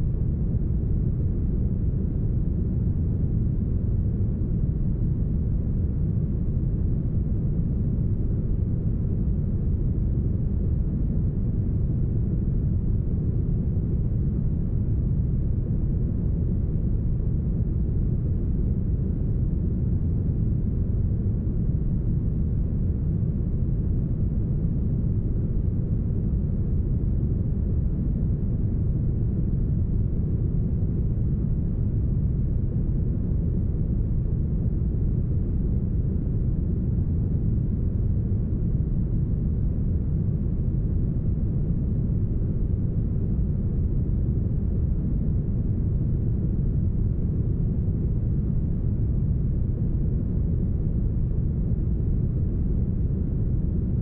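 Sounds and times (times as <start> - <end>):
deep brown noise rumble: 0.0 - 54.0.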